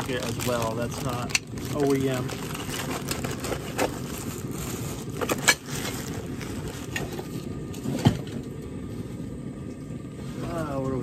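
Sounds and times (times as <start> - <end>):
heater rushing noise: 0.0 - 11.0.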